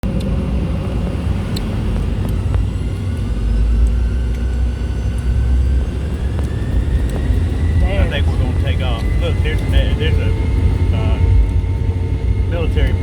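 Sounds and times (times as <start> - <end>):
faint rising jet whine: 0.0 - 13.0
jet engines deep rumble: 0.0 - 13.0.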